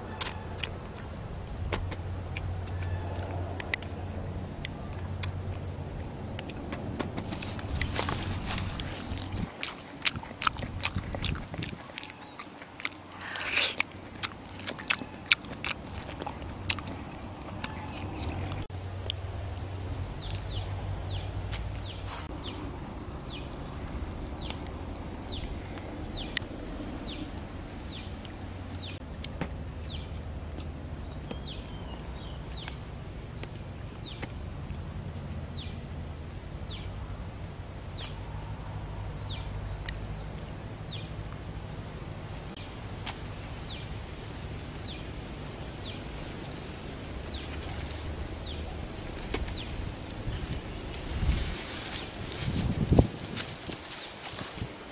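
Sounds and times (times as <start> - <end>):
outdoor background noise: 0.0 - 54.9.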